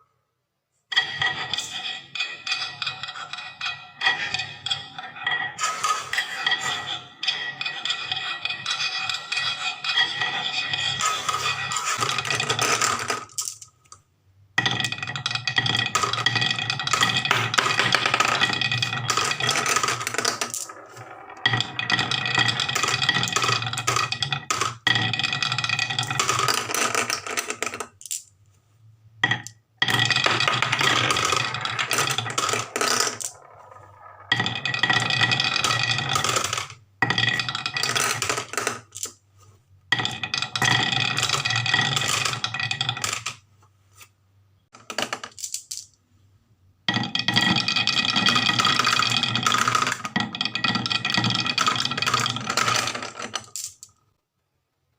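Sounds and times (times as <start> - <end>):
marbles rolling down wooden run: 0.9 - 14.0, 14.6 - 28.3, 29.2 - 39.2, 39.9 - 43.4, 44.8 - 45.9, 46.9 - 54.0.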